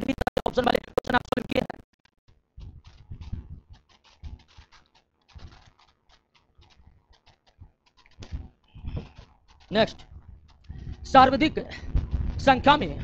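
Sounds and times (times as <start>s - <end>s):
faint clicking and tapping: 0.0s - 13.0s.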